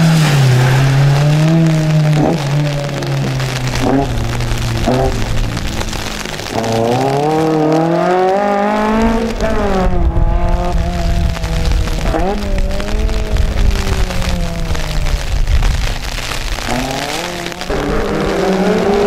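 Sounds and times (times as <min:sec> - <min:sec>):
heavy low rumble: 0:00.0 - 0:08.0, 0:08.6 - 0:16.7
car engine revving hard: 0:00.0 - 0:14.8, 0:16.6 - 0:19.0.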